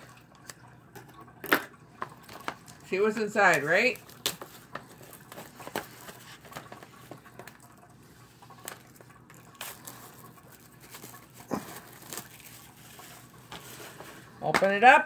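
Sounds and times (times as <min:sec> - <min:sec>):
plastic wrap crinkling: 0:02.0 - 0:14.5.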